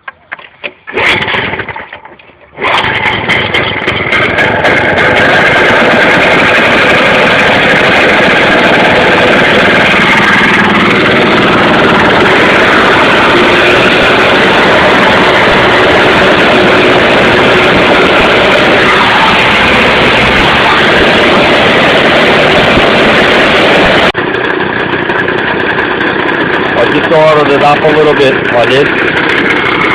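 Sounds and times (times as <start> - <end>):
two-stroke engine idling: 0.0 - 29.9.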